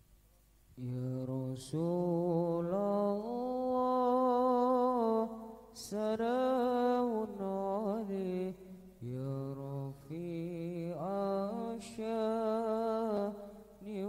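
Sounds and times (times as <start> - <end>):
man singing unaccompanied: 0.8 - 14.0.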